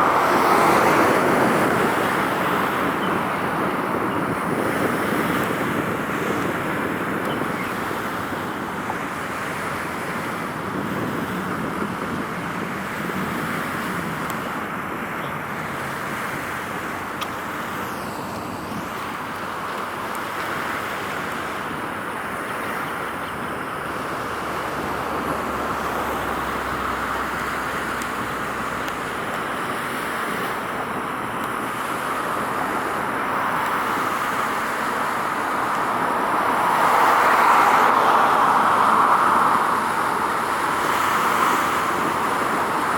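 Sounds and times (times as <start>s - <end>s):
road traffic hiss and hum: 0.0s - 42.9s.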